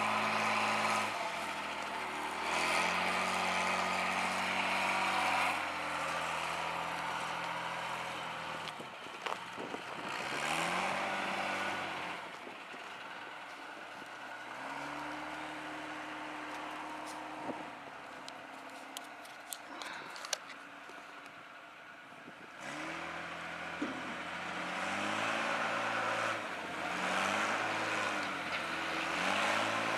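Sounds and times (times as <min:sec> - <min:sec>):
vehicle engine running: 0:00.0 - 0:29.9.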